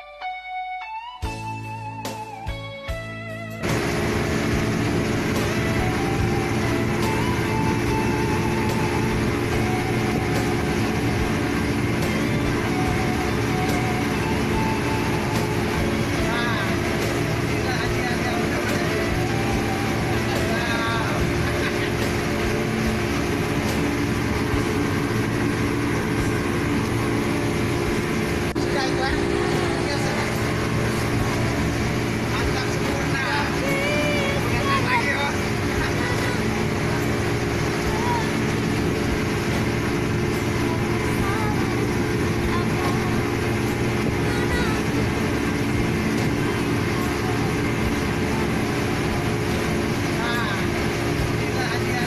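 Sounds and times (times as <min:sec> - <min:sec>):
motorboat engine running: 0:00.0 - 0:52.0
wind and water rushing: 0:03.6 - 0:52.0.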